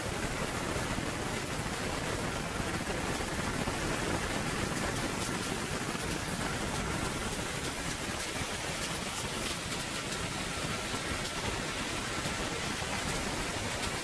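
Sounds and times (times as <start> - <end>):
steady rushing hiss: 0.0 - 14.0.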